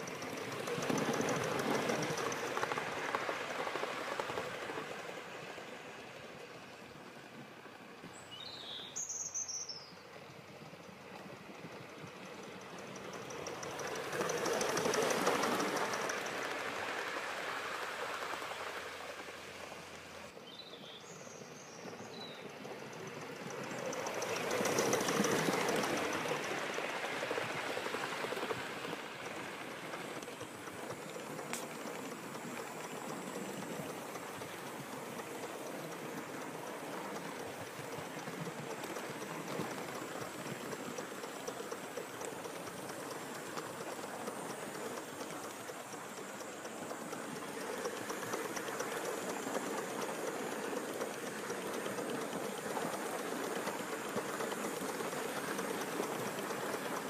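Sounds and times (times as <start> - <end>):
wheels rattling on rail: 0.0 - 57.0.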